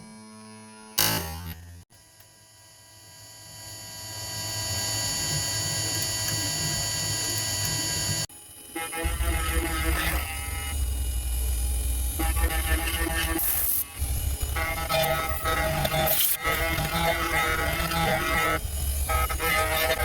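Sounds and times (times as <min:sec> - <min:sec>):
milling machine whine: 0:03.8 - 0:20.0.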